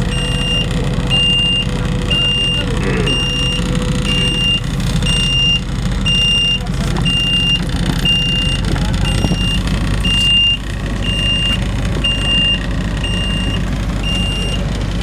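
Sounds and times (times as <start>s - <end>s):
boat engine droning: 0.0s - 15.0s
high electronic beeps: 0.1s - 14.6s.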